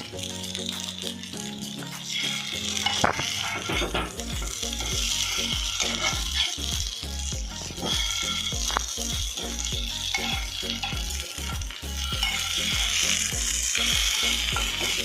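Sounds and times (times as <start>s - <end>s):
fritters sizzling in oil: 0.0s - 15.0s.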